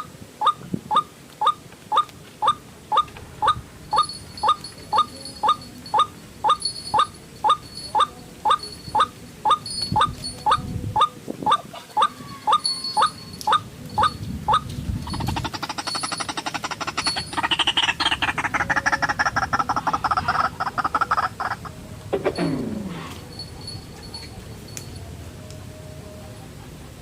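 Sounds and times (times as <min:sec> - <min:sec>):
waterhen calling sharp notes: 0:00.0 - 0:24.3
thin high twittering: 0:00.4 - 0:25.0.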